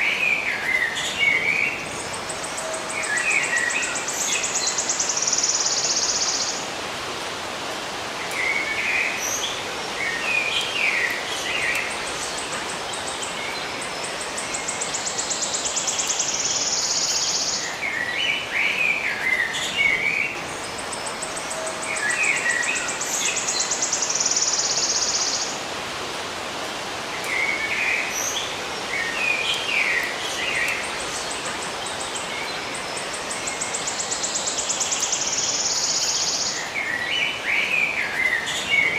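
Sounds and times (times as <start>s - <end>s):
natural ambience hiss: 0.0s - 38.9s
songbirds chirping: 0.0s - 38.9s.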